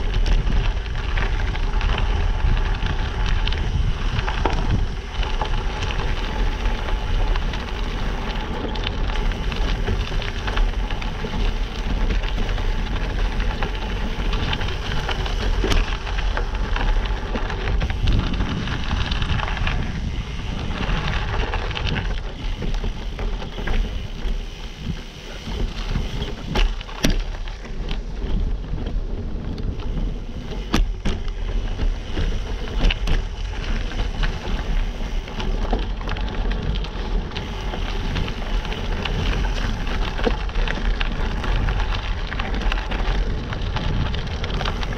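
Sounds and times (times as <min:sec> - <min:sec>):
bike rattling and knocking: 0:00.0 - 0:44.9
bike tyres crunching on gravel: 0:00.0 - 0:44.9
wind rumble on microphone: 0:00.0 - 0:44.9.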